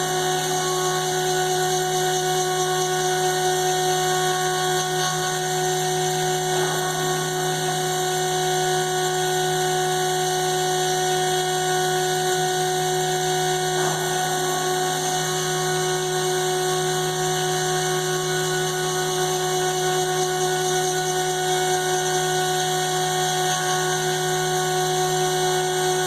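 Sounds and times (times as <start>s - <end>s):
router spindle whine: 0.0s - 26.0s.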